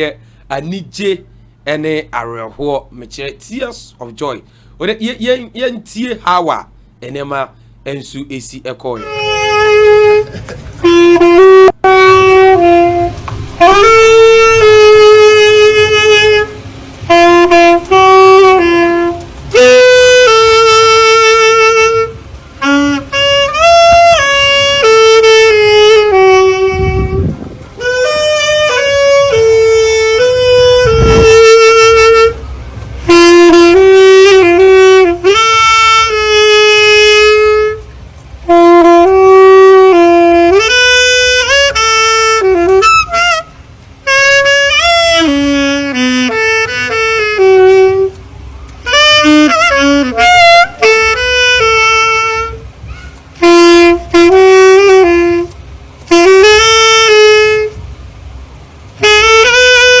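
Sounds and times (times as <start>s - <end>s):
saxophone slow melody: 9.0s - 60.0s.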